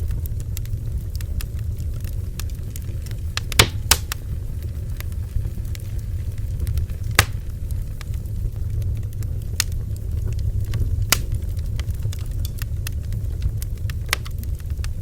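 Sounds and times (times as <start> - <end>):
bonfire crackling and popping: 0.0 - 15.0
steady low rumble: 0.0 - 15.0.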